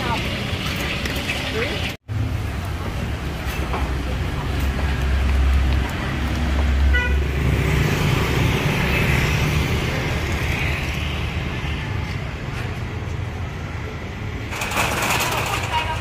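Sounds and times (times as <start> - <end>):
hum of passing vehicles: 0.0 - 16.0.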